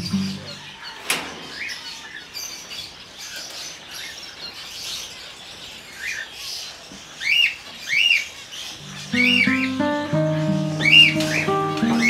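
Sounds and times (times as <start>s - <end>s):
loud arched bird calls: 0.0s - 12.0s
cockatiels chirping: 1.6s - 12.0s.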